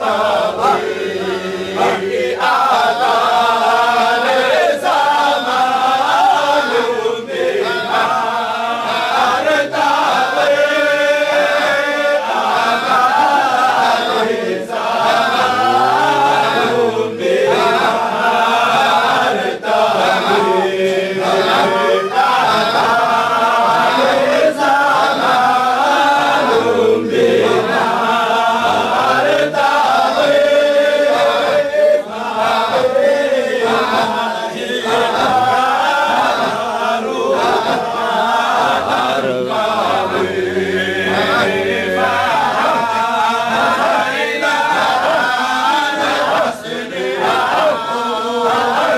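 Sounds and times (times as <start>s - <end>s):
men chanting in unison: 0.0s - 48.9s.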